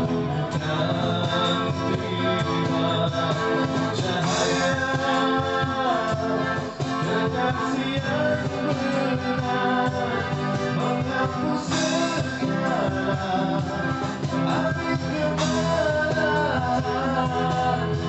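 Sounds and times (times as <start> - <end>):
guitar accompaniment: 0.0 - 18.0
person singing: 0.0 - 18.0.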